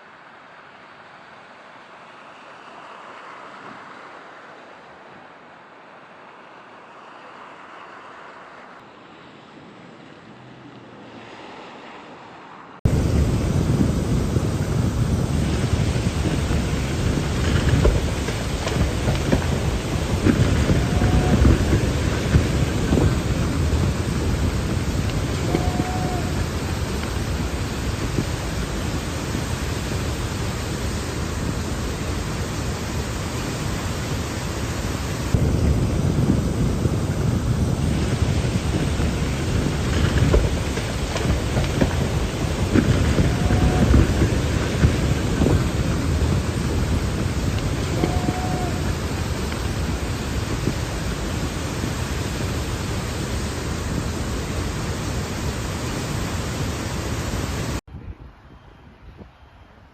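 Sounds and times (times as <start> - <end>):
storm rushing noise: 1.9 - 59.9
deep rumbling rush: 9.0 - 59.6.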